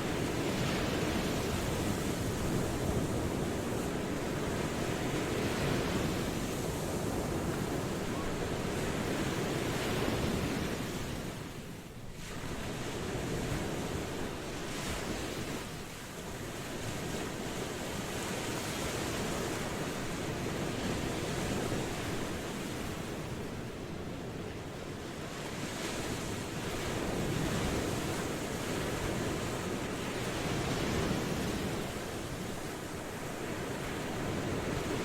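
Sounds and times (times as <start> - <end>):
ocean waves breaking on shore: 0.0 - 35.0
wind: 0.0 - 35.0.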